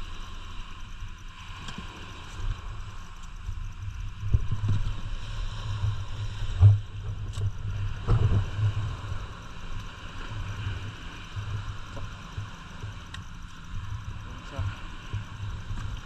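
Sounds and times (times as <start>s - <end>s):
water washing around boat: 0.0s - 16.0s
wind rumbling on microphone: 0.0s - 16.0s.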